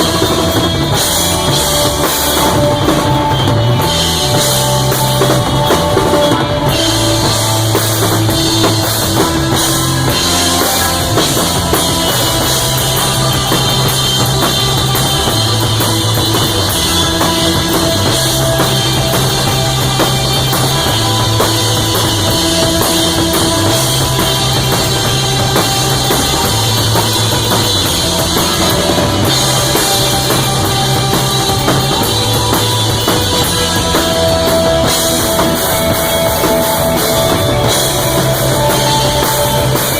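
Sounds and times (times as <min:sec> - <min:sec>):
bass line: 0:00.0 - 0:39.9
drum kit beat: 0:00.0 - 0:39.9
guitar: 0:00.0 - 0:39.9
rock band playing live: 0:00.0 - 0:39.9.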